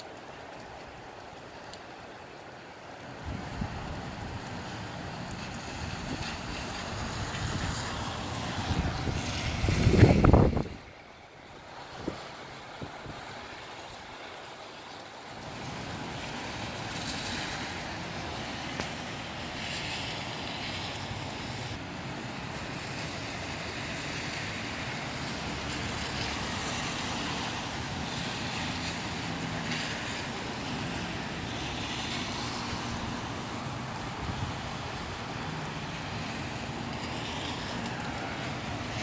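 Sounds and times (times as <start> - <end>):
gusty wind: 2.9 - 14.4, 15.3 - 39.0.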